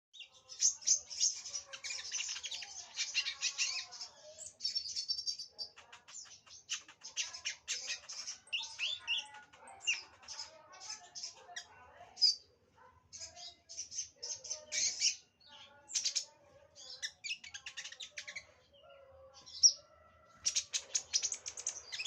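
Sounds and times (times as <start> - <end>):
bird twittering and trilling: 0.1 - 22.0.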